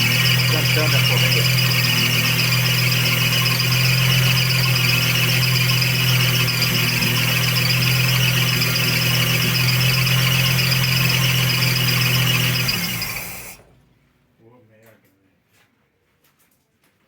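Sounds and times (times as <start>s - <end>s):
drive belt squealing: 0.0s - 13.8s
car engine humming: 0.0s - 14.0s.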